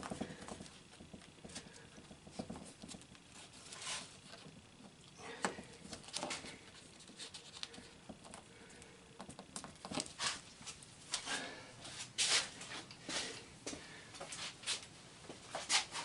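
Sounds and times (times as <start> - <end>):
rustles and scratches of handwork: 0.0 - 13.4, 14.2 - 16.0.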